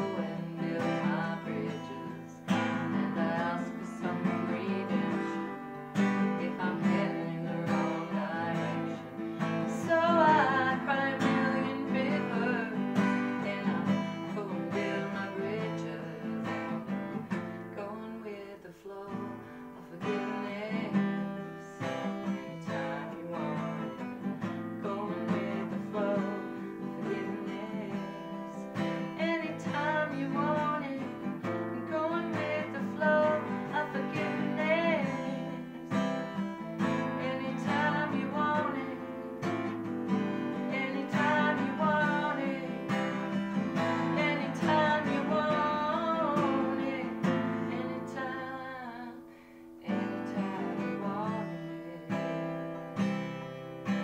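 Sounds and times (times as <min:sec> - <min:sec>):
woman singing: 0:00.0 - 0:53.2
acoustic guitar strumming: 0:00.0 - 0:54.0.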